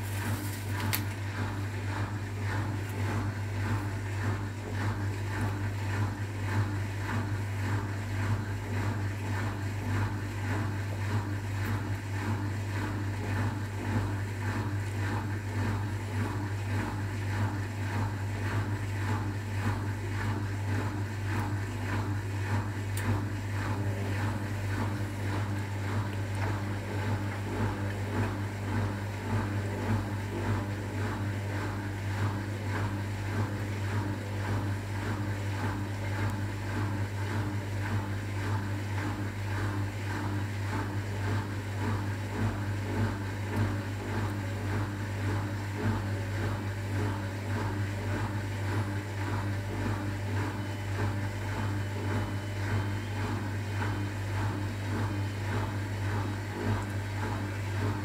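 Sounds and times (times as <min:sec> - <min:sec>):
washing machine motor hum: 0:00.0 - 0:58.0
wet laundry turning in water: 0:00.0 - 0:58.0.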